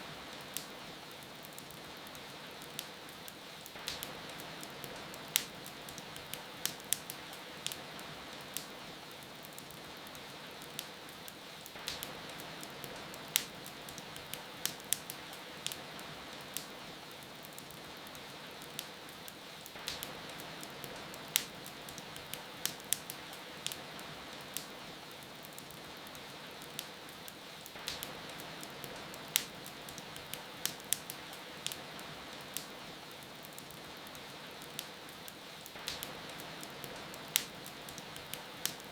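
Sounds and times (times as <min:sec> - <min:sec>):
rain hiss: 0:00.0 - 0:38.9
wood fire crackling: 0:00.0 - 0:38.9.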